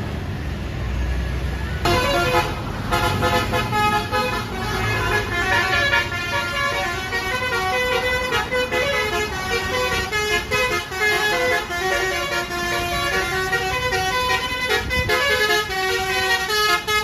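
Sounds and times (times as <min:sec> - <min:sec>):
multi-tone bus air horn tune: 0:01.8 - 0:17.0.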